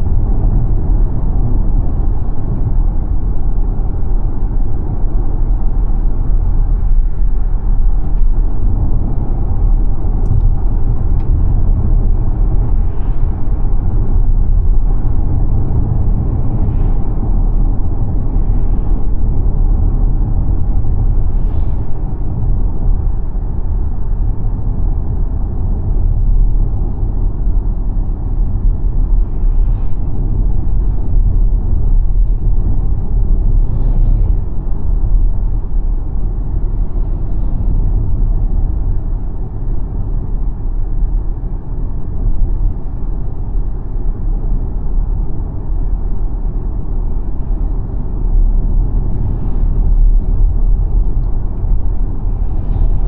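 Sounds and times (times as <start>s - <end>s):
car road rumble: 0.0s - 53.0s.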